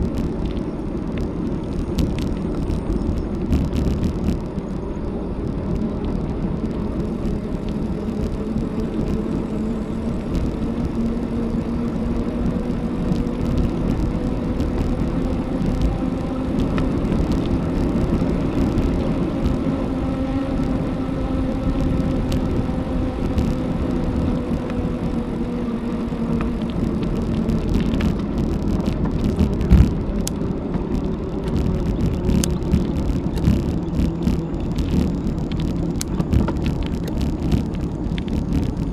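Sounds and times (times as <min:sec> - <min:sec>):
bicycle tyre and wind rumble: 0:00.0 - 0:38.9.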